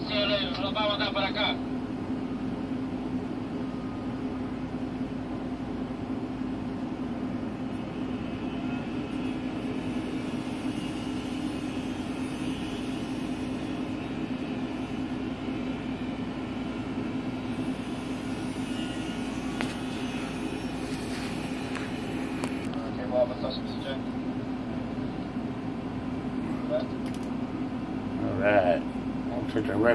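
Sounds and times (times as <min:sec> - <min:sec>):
crane machinery drone: 0:00.0 - 0:29.9.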